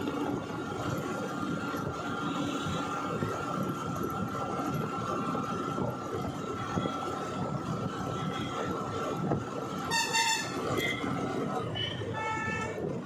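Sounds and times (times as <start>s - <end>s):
vehicle driving on concrete road: 0.0s - 13.0s.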